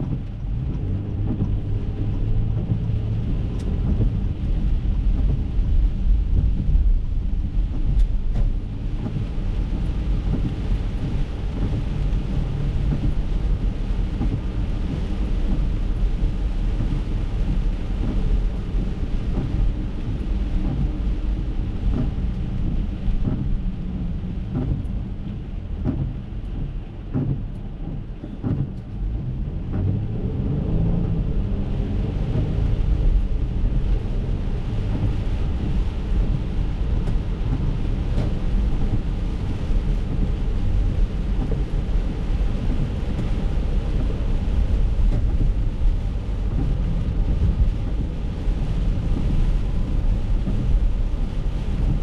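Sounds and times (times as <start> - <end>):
road and tyre rumble in car cabin: 0.0 - 52.0.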